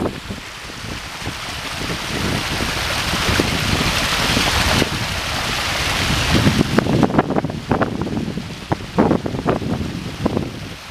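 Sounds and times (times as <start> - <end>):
waterfall rushing over rocks: 0.0 - 10.9
wind buffeting microphone: 0.0 - 10.9.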